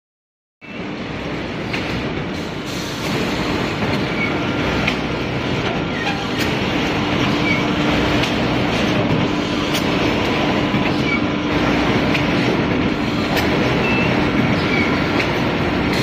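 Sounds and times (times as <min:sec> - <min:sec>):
continuous machine hum: 0:00.6 - 0:16.0.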